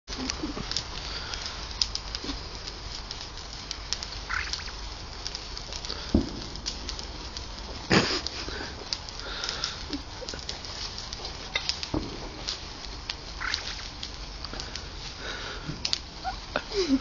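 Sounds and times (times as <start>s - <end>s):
sparklers fizzing and crackling: 0.0s - 17.0s.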